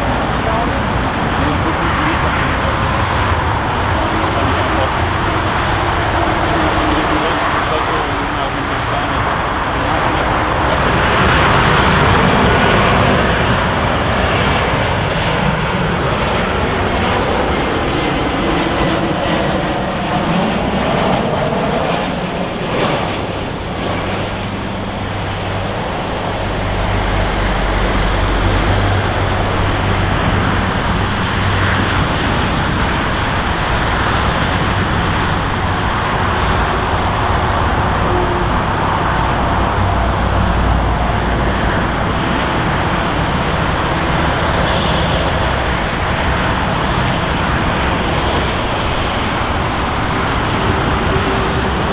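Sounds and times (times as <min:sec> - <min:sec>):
deep low rumble: 0:00.0 - 0:51.9
jet airliner passing: 0:00.0 - 0:51.9.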